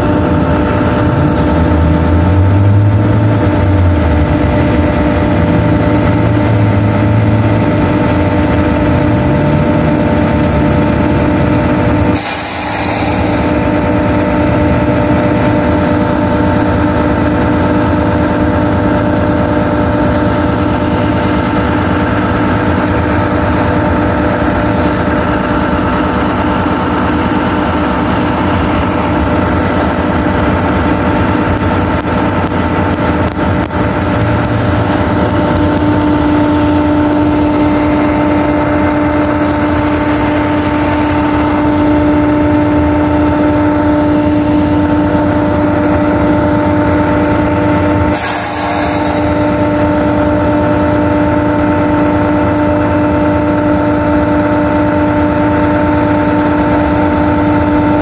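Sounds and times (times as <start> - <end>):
bus idling drone: 0.0 - 58.0.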